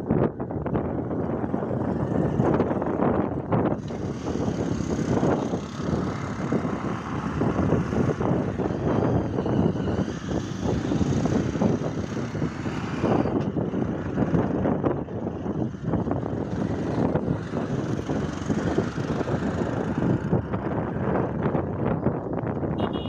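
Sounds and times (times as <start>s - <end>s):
wind gusting on microphone: 0.0s - 23.0s.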